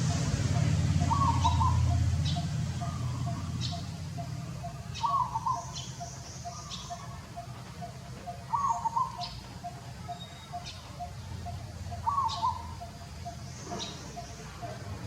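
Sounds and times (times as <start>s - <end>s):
sharp high bird chirps: 0.0s - 7.5s, 8.3s - 14.7s
bird warbling call: 0.0s - 14.9s.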